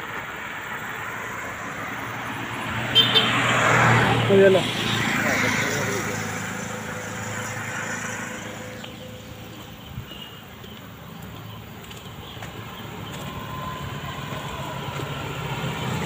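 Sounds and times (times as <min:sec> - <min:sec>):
vehicle engine hum and road noise: 0:00.0 - 0:16.0.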